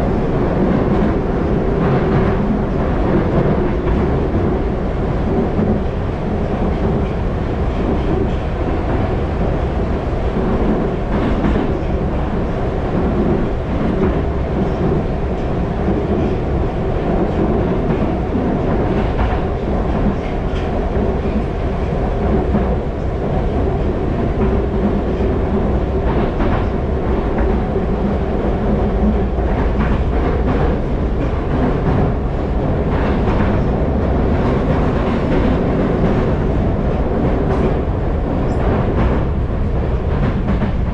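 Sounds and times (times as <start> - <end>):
metro train rumbling in tunnel: 0.0 - 40.9.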